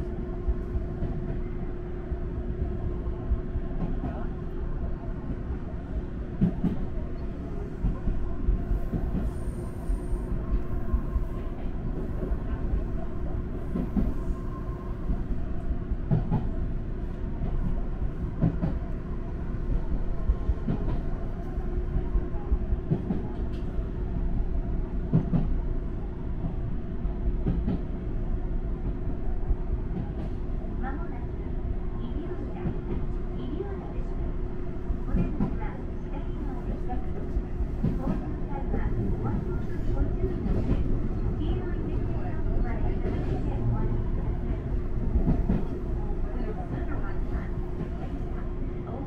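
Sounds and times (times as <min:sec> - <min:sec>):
steady train hum: 0:00.0 - 0:49.0
train wheels rumbling on rail: 0:00.0 - 0:49.0.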